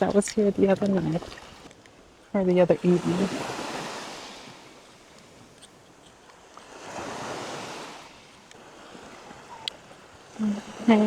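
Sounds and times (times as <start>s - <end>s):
small waves washing onto shore: 0.0s - 11.0s.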